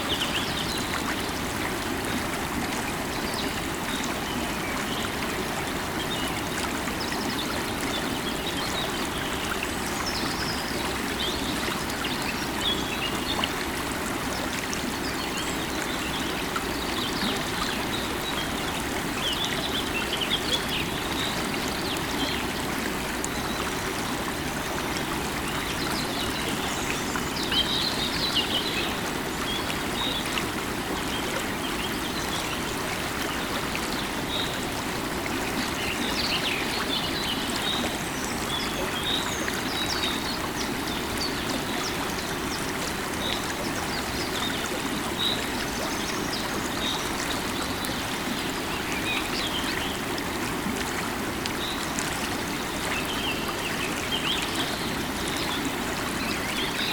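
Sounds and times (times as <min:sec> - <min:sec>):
river water running over stones: 0:00.0 - 0:56.9.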